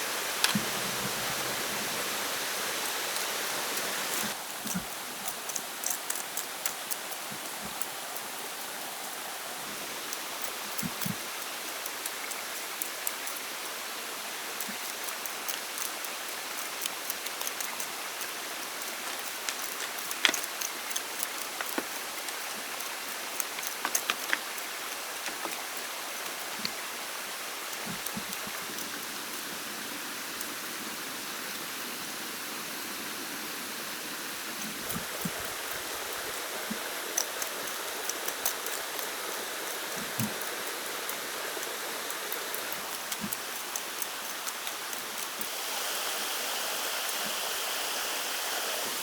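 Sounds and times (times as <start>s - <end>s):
rushing water: 0.0s - 49.0s.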